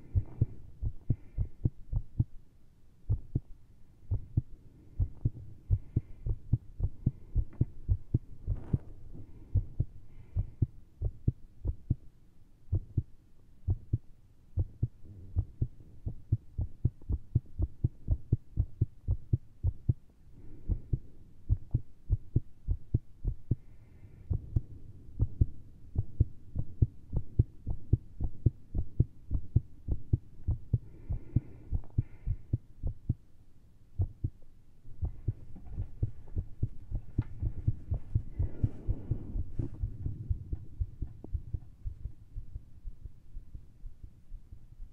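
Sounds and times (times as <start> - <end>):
fast irregular heartbeat: 0.0 - 2.4, 3.1 - 3.5, 4.1 - 12.1, 12.7 - 20.1, 20.7 - 23.7, 24.3 - 33.2, 34.0 - 44.9.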